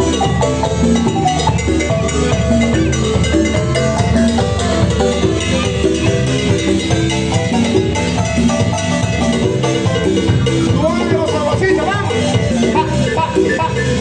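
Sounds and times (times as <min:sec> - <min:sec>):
marimba band playing dance music: 0:00.0 - 0:14.0.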